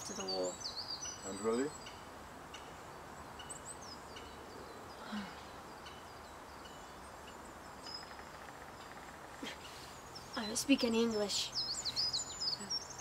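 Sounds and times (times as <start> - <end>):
bird chirps: 0.0 - 13.0
steady low hiss: 0.0 - 13.0.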